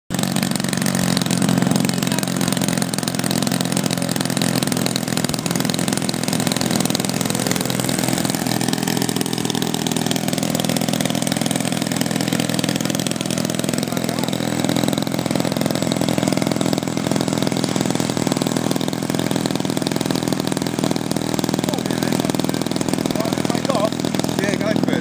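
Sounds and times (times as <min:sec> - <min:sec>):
model plane engine idling: 0:00.1 - 0:25.0.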